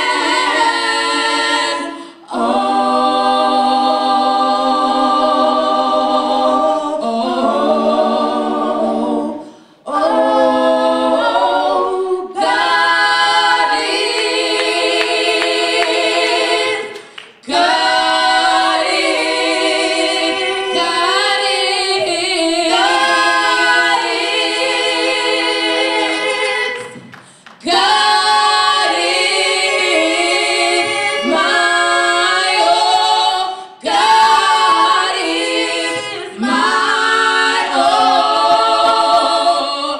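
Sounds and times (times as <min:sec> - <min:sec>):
women singing a cappella harmony: 0:00.0 - 0:39.9.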